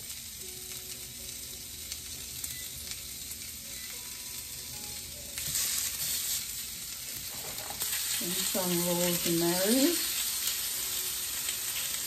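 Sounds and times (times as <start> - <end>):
meat sizzling in a grill pan: 0.0 - 12.0.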